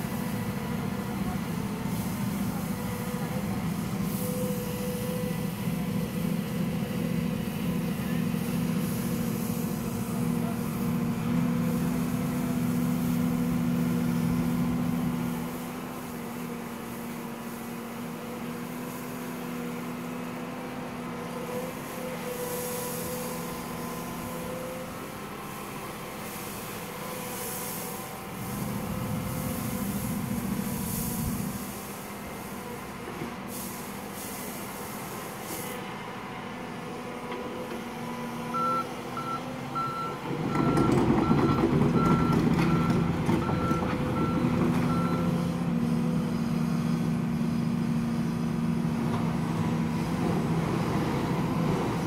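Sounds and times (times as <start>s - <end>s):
excavator diesel engine hum: 0.0s - 52.0s.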